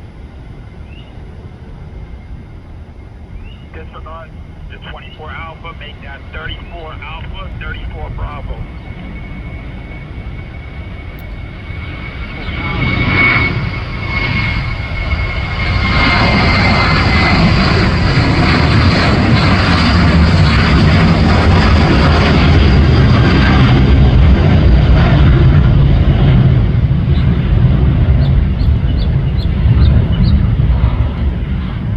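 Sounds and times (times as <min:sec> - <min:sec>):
jet engines at high thrust: 0:00.0 - 0:31.9.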